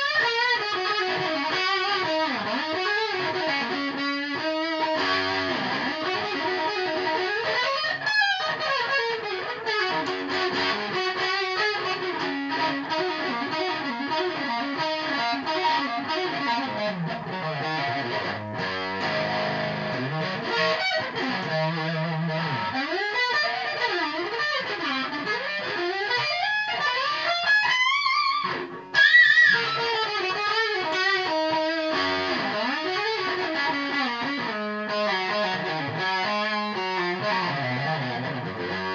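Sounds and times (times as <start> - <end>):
electric guitar solo: 0.0 - 38.9.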